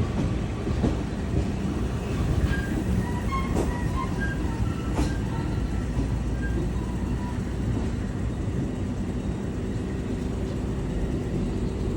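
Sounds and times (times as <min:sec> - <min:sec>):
train rumbling on rails: 0:00.0 - 0:11.9.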